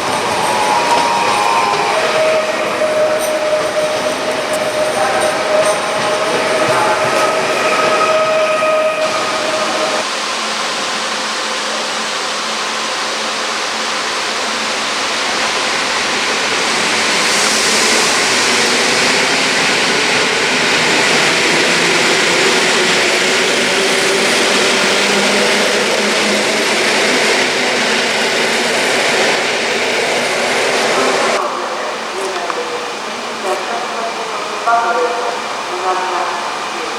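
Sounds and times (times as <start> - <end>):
train wheels rumbling on rails: 0.0 - 36.4.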